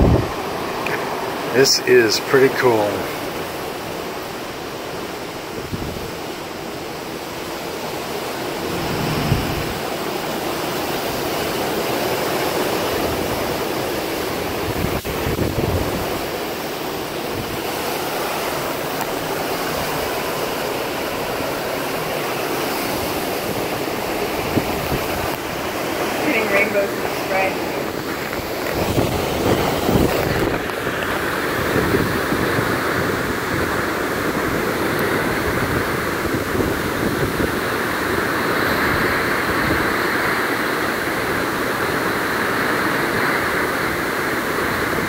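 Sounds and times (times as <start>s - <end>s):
wind buffeting microphone: 0.0s - 1.0s, 4.4s - 11.8s, 12.6s - 45.0s
open sea rushing: 0.0s - 45.0s.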